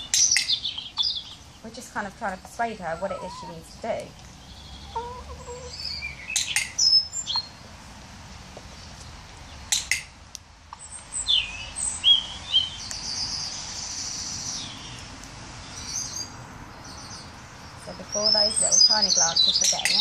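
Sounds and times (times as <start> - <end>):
small birds chirping: 0.0 - 7.9, 8.5 - 10.1, 10.7 - 20.0.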